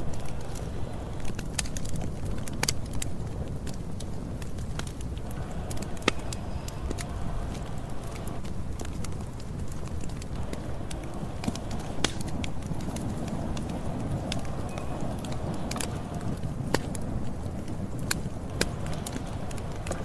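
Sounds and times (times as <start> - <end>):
low rumble of flames: 0.0 - 20.0
wood crackling and popping: 0.0 - 20.0.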